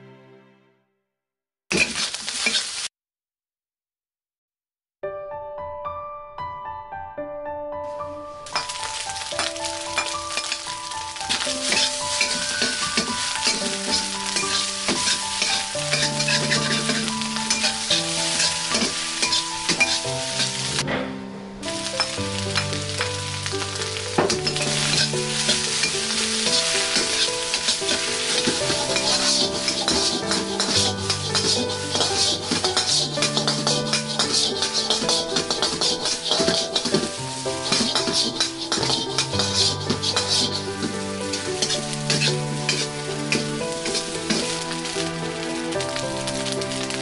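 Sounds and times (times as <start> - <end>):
food sizzling in a wok: 1.7 - 2.9, 8.4 - 20.8, 21.6 - 47.0.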